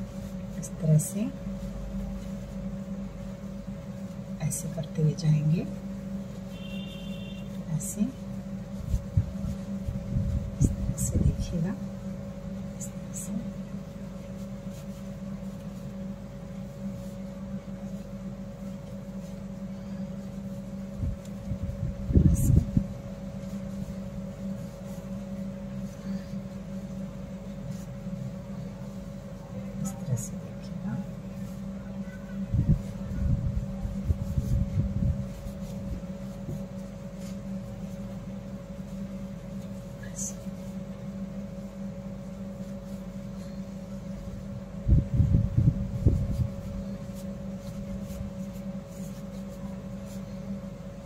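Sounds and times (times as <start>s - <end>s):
cloth rustling: 0.0s - 51.0s
steady low hum: 0.0s - 51.0s.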